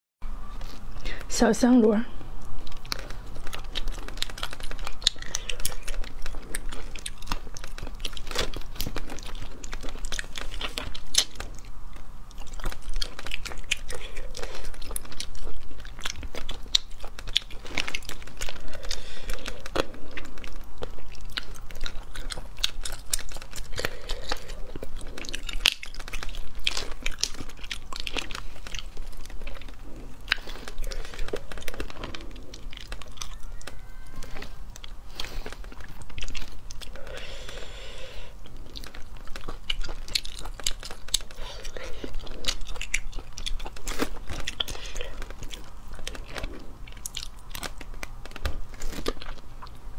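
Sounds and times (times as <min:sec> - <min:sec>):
chewing and mouth sounds: 0:00.4 - 0:01.3, 0:02.1 - 0:49.9.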